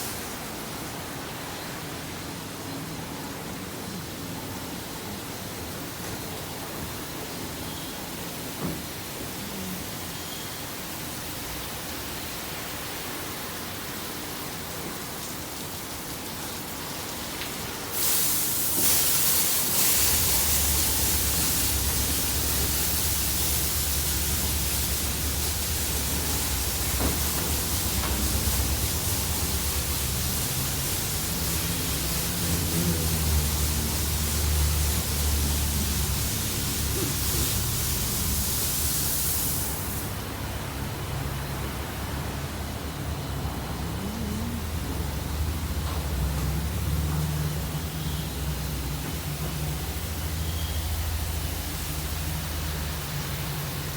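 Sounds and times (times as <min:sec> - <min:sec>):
car wash hiss: 0:00.0 - 0:53.9.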